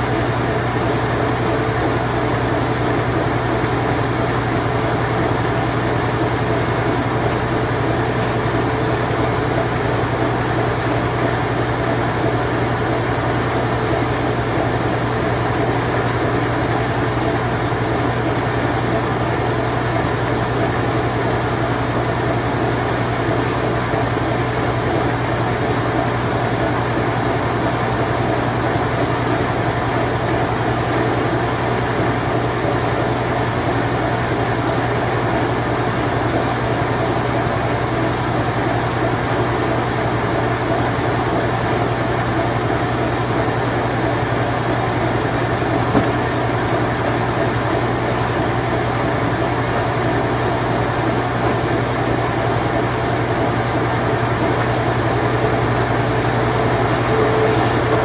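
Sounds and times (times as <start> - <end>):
washing machine spin cycle: 0.0 - 58.0.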